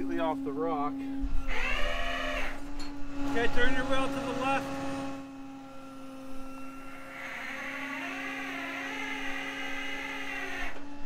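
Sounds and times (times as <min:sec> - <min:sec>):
higher wavering whine: 0:00.0 - 0:11.0
hydraulic drive whine: 0:00.0 - 0:11.0.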